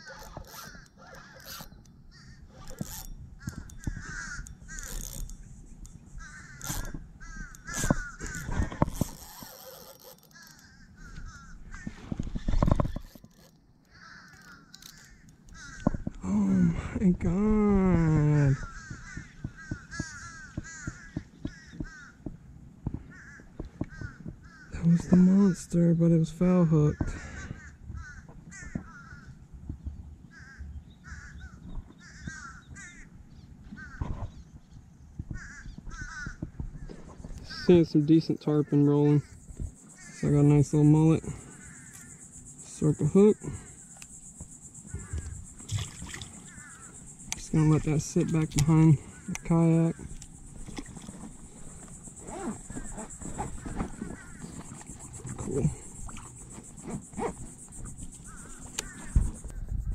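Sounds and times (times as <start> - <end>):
birds cawing: 0.0 - 5.3, 6.1 - 17.1, 18.1 - 25.5, 26.8 - 29.4, 30.3 - 34.5, 35.2 - 59.6.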